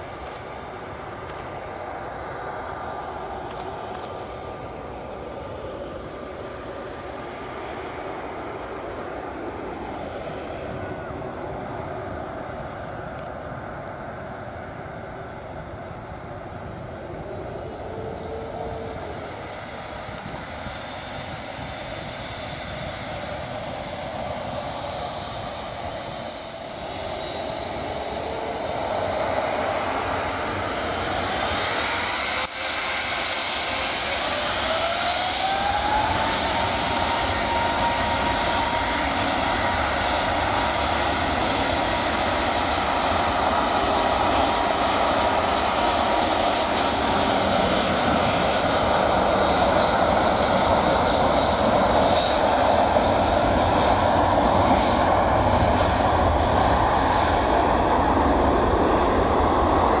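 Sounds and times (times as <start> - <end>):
jet engines spooling up: 0.0 - 60.0.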